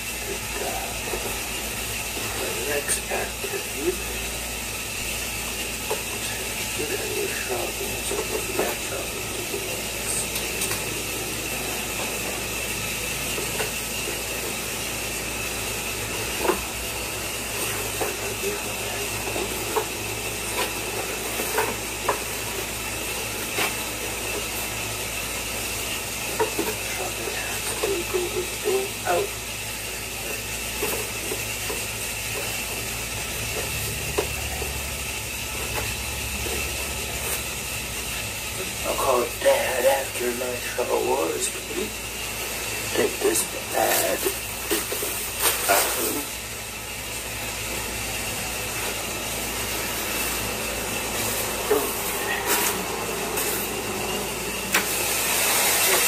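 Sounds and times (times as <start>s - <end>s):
shower water spray hissing: 0.1s - 56.0s.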